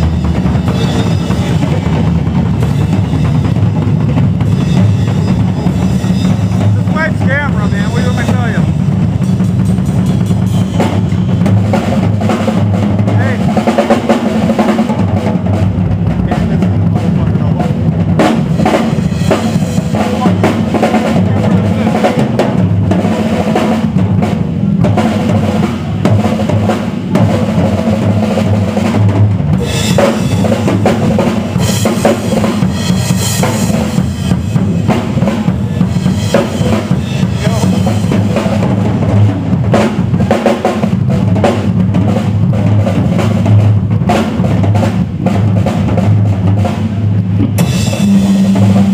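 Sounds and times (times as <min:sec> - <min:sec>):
cymbals crashing: 0:00.0 - 0:48.9
rock drum solo: 0:00.0 - 0:48.9.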